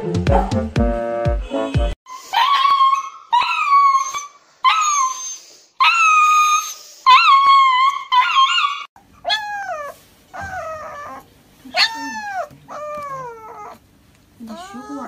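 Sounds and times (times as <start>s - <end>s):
dog howling and crying: 2.1s - 13.8s, 14.4s - 15.0s.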